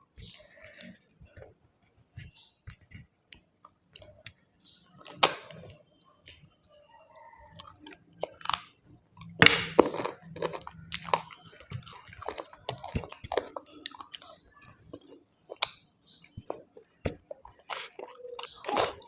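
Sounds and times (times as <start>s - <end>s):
chewing with wet mouth smacks: 0.0s - 19.0s.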